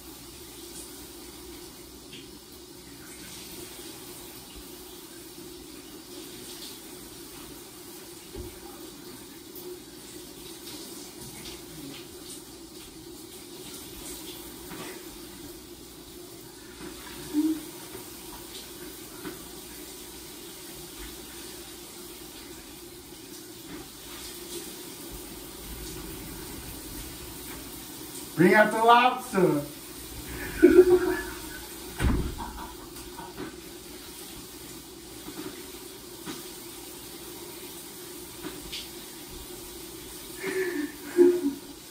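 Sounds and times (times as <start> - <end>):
shower spraying water: 0.0 - 41.9.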